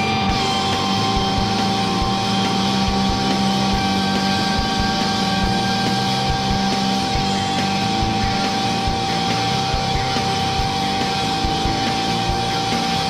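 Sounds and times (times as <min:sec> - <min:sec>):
helicopter rotor throb: 0:00.0 - 0:13.0
helicopter engine whine: 0:00.2 - 0:12.4.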